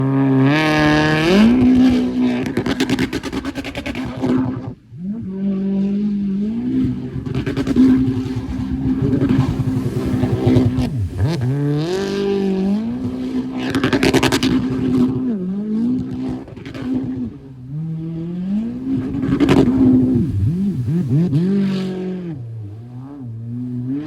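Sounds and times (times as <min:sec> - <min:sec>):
jet ski engine revving: 0:00.0 - 0:24.0.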